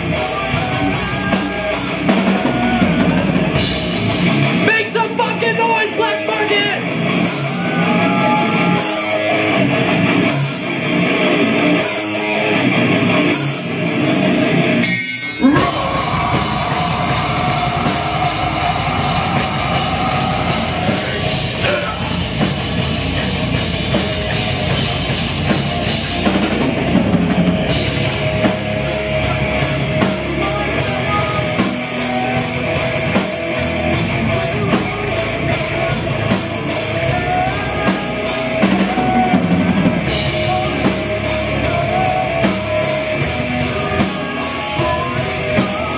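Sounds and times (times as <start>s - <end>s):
bass guitar: 0.0s - 45.9s
distorted electric guitar: 0.0s - 45.9s
drum kit: 0.0s - 45.9s.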